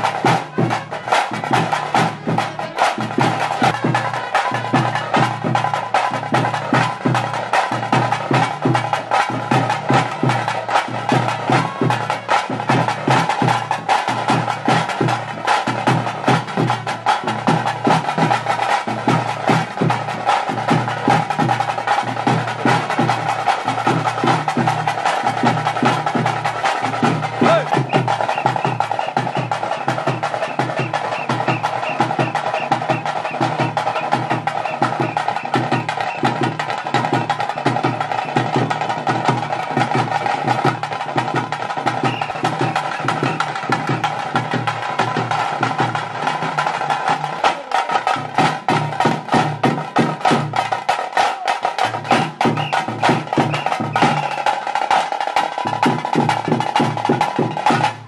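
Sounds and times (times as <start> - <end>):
drums beaten with sticks: 0.0 - 58.0.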